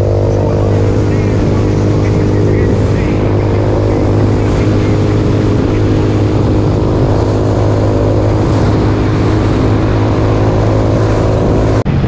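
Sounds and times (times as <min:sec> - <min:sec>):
low engine hum: 0:00.0 - 0:12.0
wind and road noise: 0:00.0 - 0:12.0.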